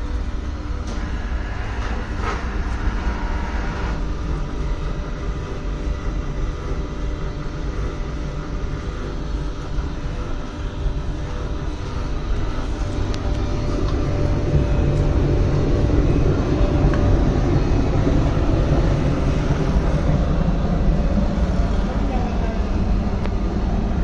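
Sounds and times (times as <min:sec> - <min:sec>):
faint hum: 0:00.0 - 0:24.0
pellet burner rumbling: 0:00.0 - 0:24.0.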